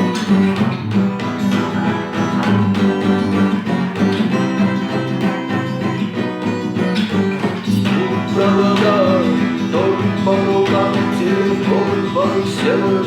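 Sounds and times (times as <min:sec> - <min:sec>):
acoustic guitar chords: 0:00.0 - 0:13.0
guitar melody bending in pitch: 0:00.0 - 0:13.0.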